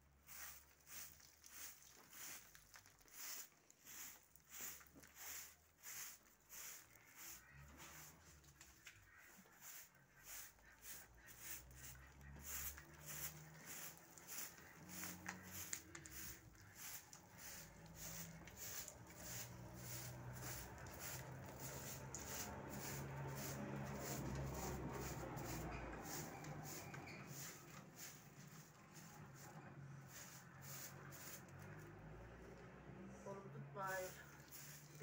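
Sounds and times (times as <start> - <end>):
broom sweeping concrete floor: 0.0 - 32.4, 33.7 - 35.0.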